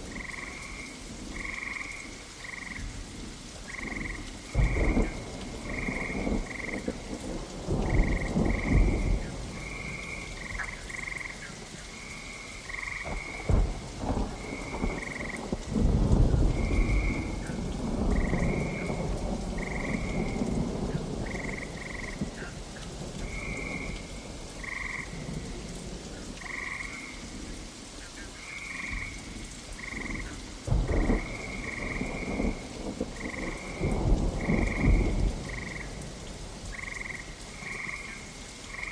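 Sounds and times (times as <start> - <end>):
steady rain: 0.0 - 38.9
frogs calling: 0.1 - 2.9, 3.6 - 13.6, 16.4 - 36.0, 36.7 - 38.9
thunder rumbling: 3.7 - 12.0, 12.7 - 27.6, 28.7 - 38.9.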